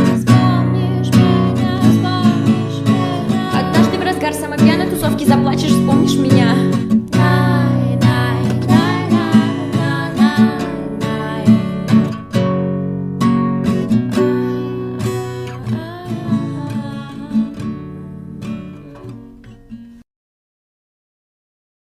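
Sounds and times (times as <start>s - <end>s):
acoustic guitar strumming and picking: 0.0s - 20.0s.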